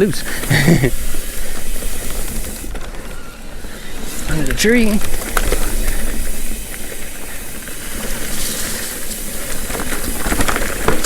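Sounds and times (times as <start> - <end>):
bike tyre noise: 0.0 - 11.0
bike knocks and rattles: 0.3 - 11.0.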